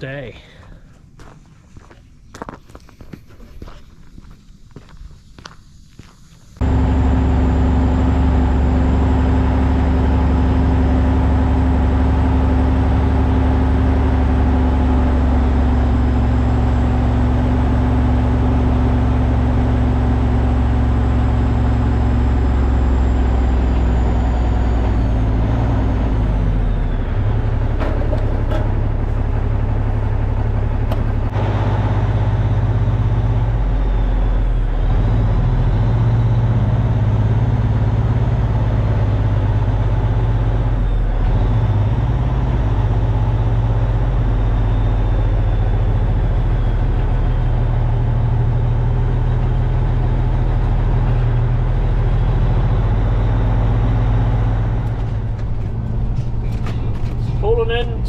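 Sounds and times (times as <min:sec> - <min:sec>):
diesel truck engine drone: 0:06.5 - 0:58.0.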